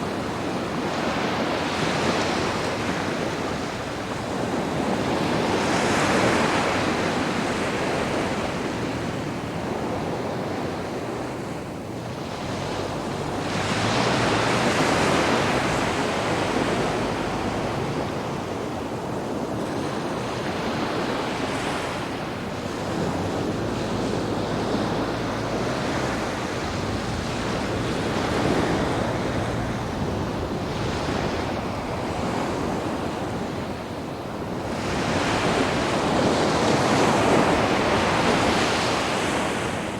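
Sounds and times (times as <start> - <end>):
sea waves washing up a beach: 0.0 - 39.9.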